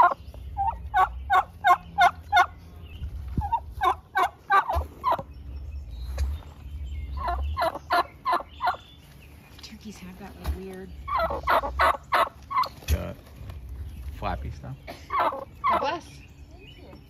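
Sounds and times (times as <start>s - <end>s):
turkeys calling: 0.0s - 17.0s.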